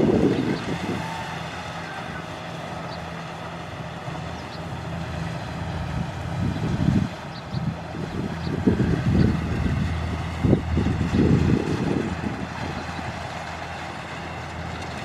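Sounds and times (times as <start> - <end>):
wind buffeting microphone: 0.0 - 1.8, 3.8 - 15.0
combine harvester engine droning: 0.0 - 15.0.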